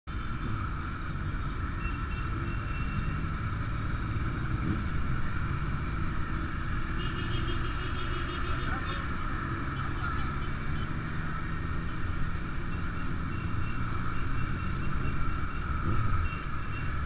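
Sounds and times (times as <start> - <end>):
motorcycle engines running: 0.1 - 17.0.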